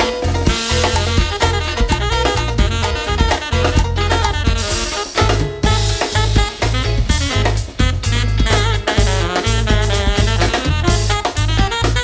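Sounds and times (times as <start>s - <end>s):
drum kit: 0.0s - 12.0s
electric guitar: 0.0s - 12.0s
repeating bass line: 0.0s - 12.0s
saxophone improvising: 0.0s - 12.0s.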